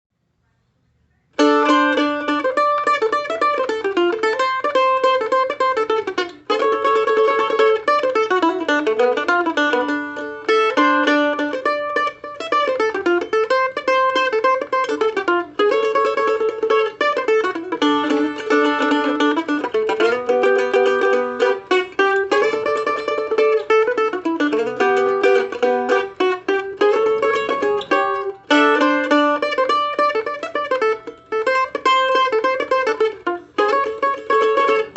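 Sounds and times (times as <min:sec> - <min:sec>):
mandolin fast tune: 0:01.3 - 0:34.9.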